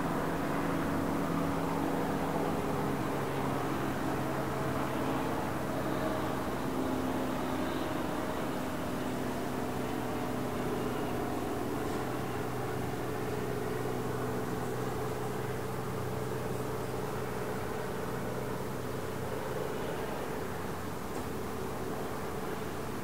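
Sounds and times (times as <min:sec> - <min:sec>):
low mechanical drone: 0:00.0 - 0:23.0.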